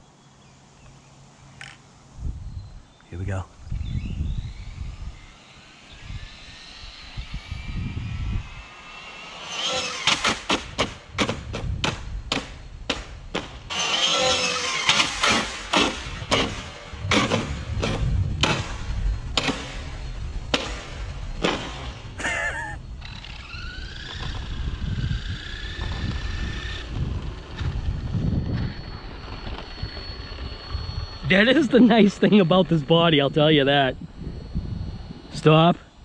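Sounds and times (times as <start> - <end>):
wind on microphone: 2.1 - 8.9, 10.6 - 13.7, 15.4 - 36.0
electric motor whining: 3.6 - 36.0.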